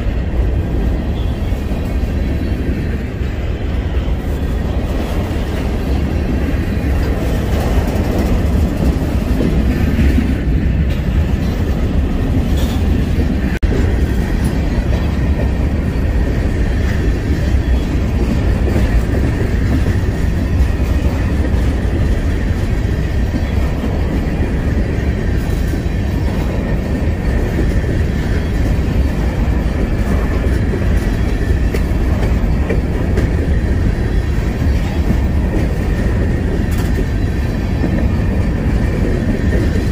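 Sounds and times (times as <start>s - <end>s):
freight train wheels rumbling: 0.0s - 39.9s
wheels clacking over rail joints: 0.0s - 39.9s.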